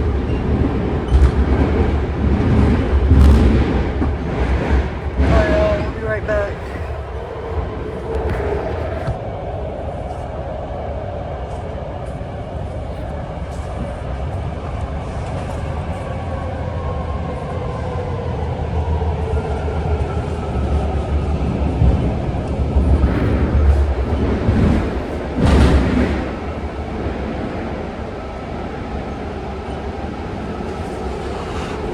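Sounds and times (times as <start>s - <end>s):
train rumbling on rails: 0.0s - 31.9s.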